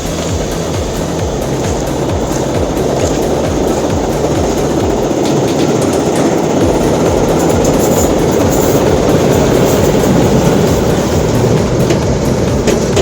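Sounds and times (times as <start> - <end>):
passenger train passing: 0.0 - 13.0
wheels clattering over rail joints: 0.0 - 13.0.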